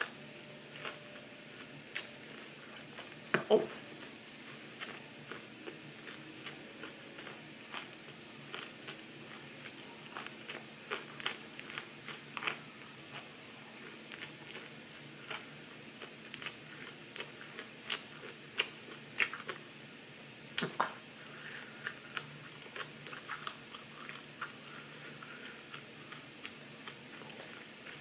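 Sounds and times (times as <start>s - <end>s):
chewing crunchy food: 0.0s - 28.0s.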